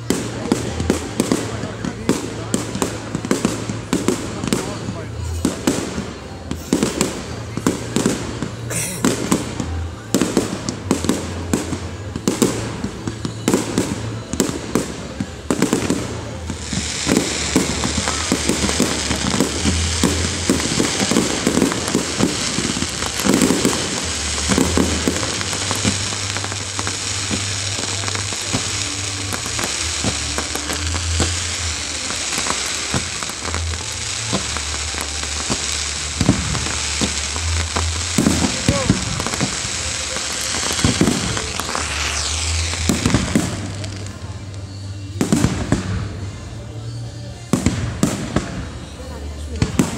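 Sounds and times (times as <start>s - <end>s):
fireworks bangs and pops: 0.0s - 49.9s
fireworks hiss: 0.0s - 49.9s.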